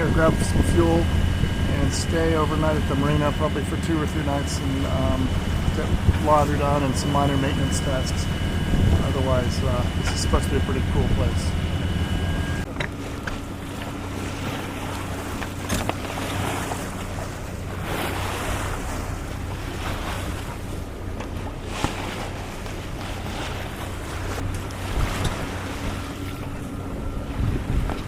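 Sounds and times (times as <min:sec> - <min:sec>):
low boat engine hum: 0:00.0 - 0:28.0
water rushing along boat hull: 0:00.0 - 0:28.0
wind buffeting microphone: 0:00.0 - 0:28.0.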